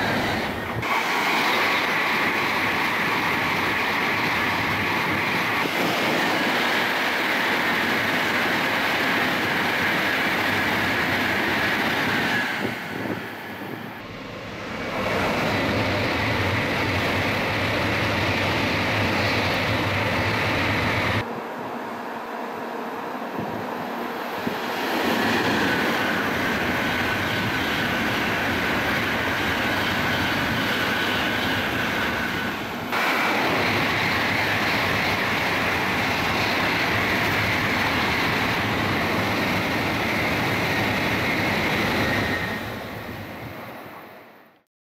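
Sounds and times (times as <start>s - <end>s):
train wheels rushing on rail: 0.0s - 44.6s.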